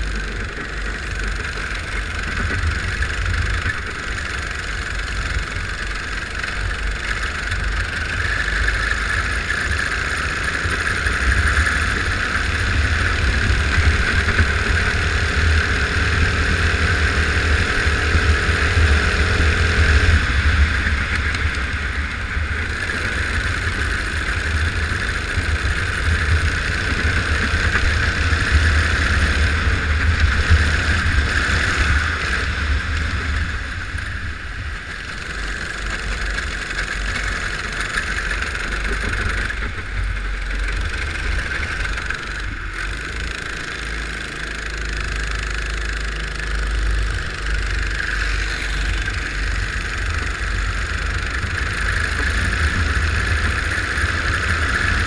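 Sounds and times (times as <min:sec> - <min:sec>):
go-kart engine droning: 0:00.0 - 0:55.0.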